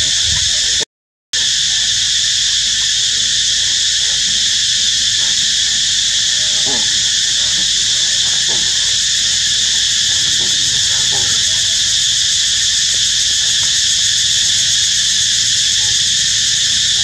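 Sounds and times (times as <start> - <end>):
cicada chorus drone: 0.0 - 0.8, 1.4 - 17.0
monkeys squealing: 1.4 - 17.0.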